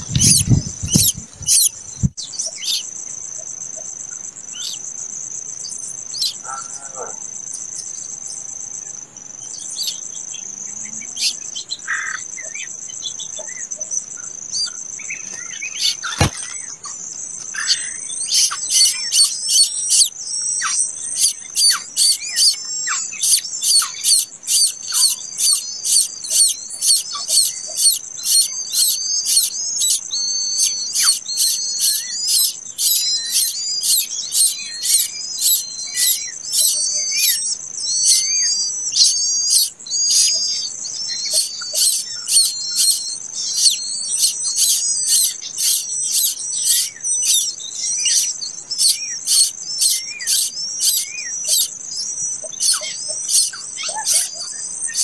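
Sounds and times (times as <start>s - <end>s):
nestlings cheeping: 0.0s - 6.5s, 7.2s - 55.0s
high insect trill: 0.0s - 55.0s.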